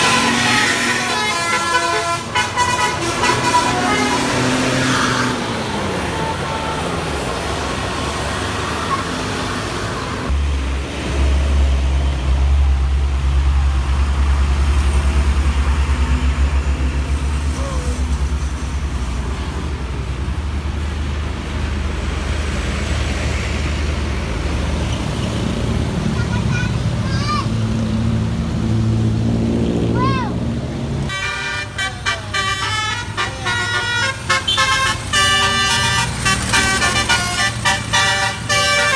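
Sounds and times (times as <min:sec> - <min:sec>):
heavy vehicle engine rumble passing: 0:00.0 - 0:38.9
roadside traffic noise: 0:00.0 - 0:38.9.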